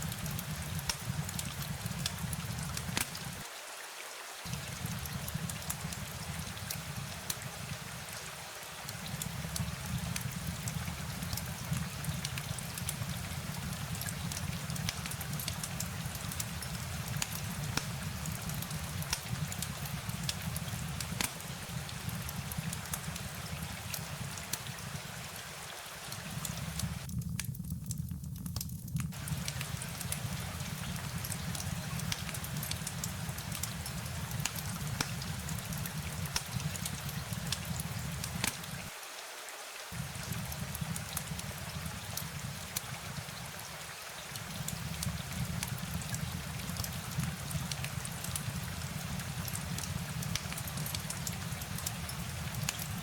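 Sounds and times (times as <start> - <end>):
rain hissing: 0.0 - 3.6, 4.4 - 27.5, 29.1 - 53.0.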